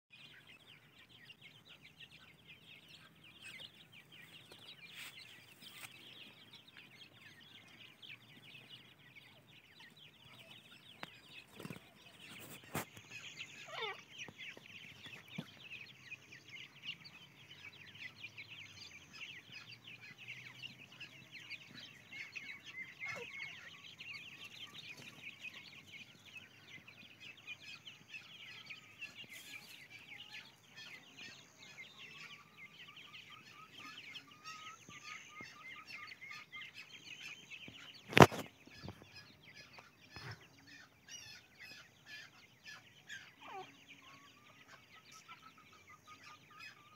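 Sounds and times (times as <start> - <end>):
chicks peeping: 0.1 - 46.9.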